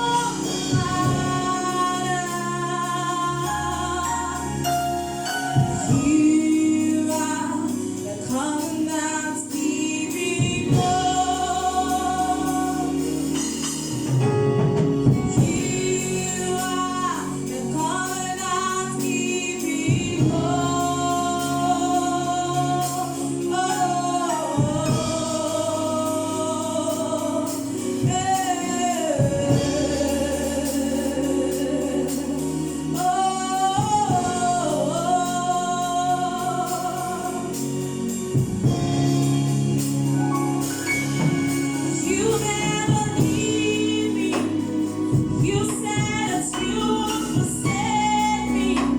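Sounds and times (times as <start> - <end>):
gospel choir singing: 0.0 - 48.9
sustained low instrumental accompaniment: 0.0 - 48.9.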